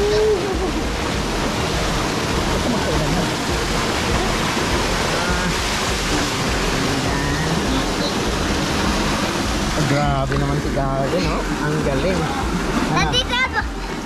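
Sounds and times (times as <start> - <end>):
falling water rushing: 0.0 - 14.0.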